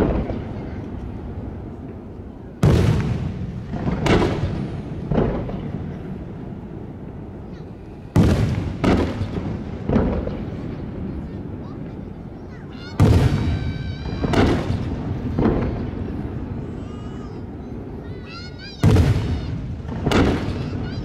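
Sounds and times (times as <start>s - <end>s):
firework shells booming: 0.0s - 21.0s.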